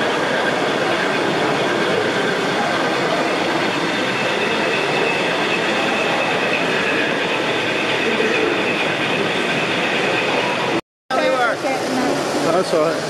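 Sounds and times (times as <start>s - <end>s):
model diesel locomotive running: 0.0s - 13.0s.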